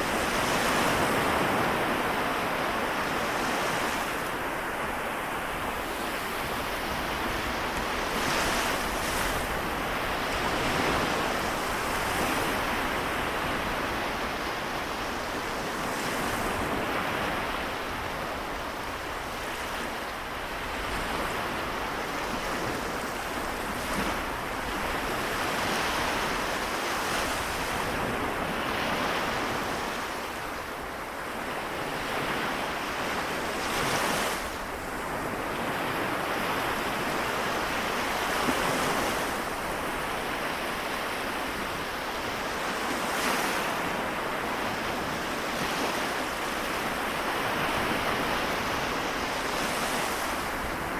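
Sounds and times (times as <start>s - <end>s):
small waves washing onto shore: 0.0s - 50.9s.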